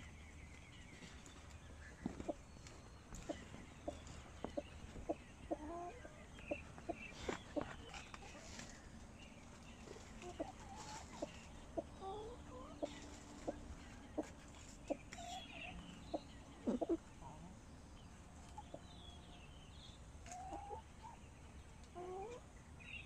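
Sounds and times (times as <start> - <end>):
hens clucking: 1.2 - 19.6, 20.2 - 22.6.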